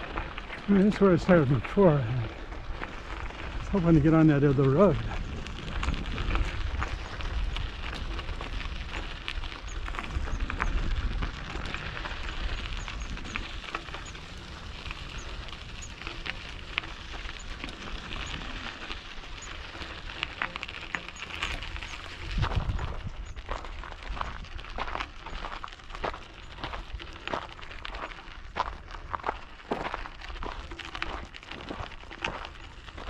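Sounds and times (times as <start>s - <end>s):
wind rumble on microphone: 0.0s - 29.4s
bike tyres crunching on gravel: 0.0s - 33.0s.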